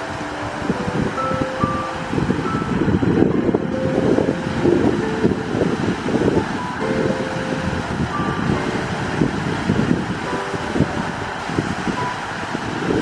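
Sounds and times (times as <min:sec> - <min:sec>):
fountain jets splashing: 0:00.0 - 0:13.0
wind on microphone: 0:00.0 - 0:13.0.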